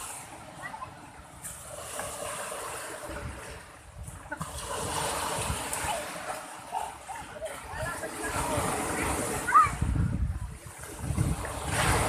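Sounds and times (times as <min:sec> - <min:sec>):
sea waves washing onto beach: 0:00.0 - 0:12.0.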